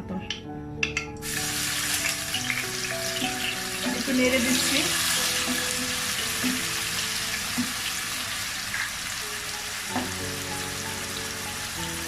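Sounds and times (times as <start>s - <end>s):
paste sizzling in hot oil: 1.2s - 12.0s.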